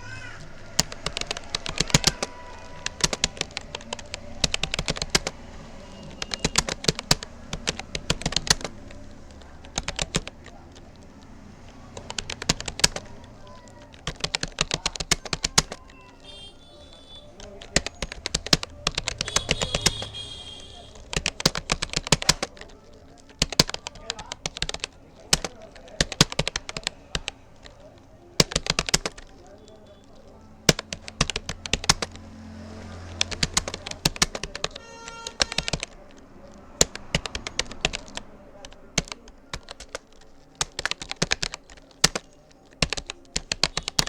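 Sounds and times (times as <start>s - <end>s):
keyboard key clicks: 0.3s - 44.0s.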